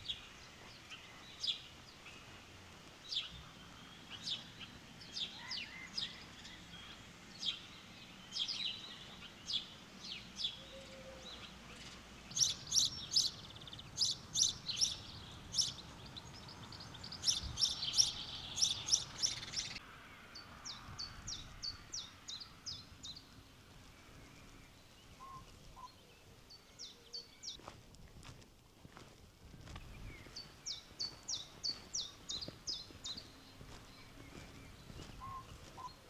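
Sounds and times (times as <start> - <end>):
small songbirds chirping: 0.0 - 27.8, 28.9 - 36.0.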